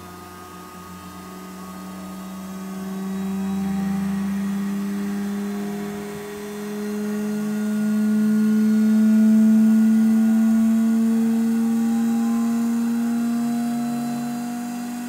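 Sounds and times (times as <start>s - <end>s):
centrifuge machine hum: 0.0s - 15.0s.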